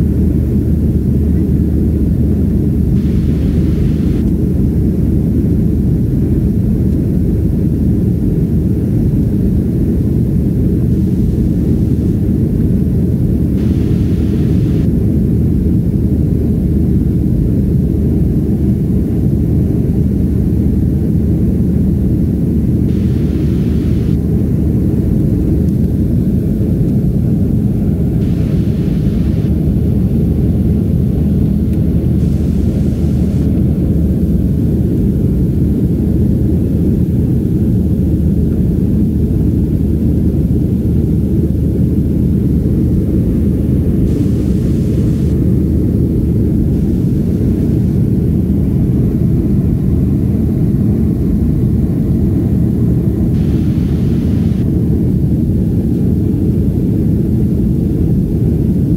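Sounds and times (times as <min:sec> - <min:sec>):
airflow over fuselage: 0:00.0 - 0:58.9
airplane cabin engine rumble: 0:00.0 - 0:58.9
faint steady hum: 0:00.0 - 0:58.9.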